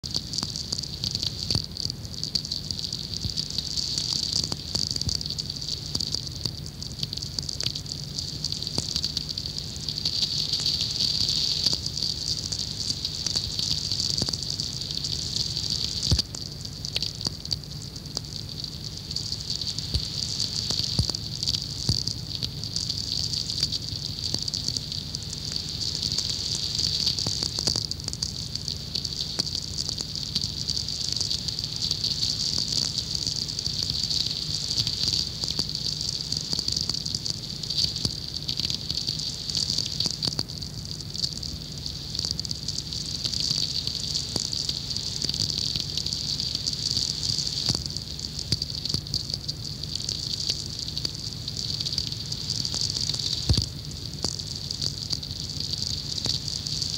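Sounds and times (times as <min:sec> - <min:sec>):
radio crackling with hiss: 0:00.0 - 0:56.9.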